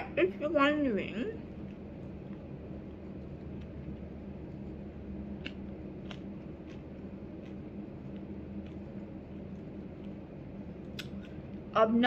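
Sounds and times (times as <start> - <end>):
steady low hum: 0.0 - 12.0
person chewing: 1.4 - 11.5.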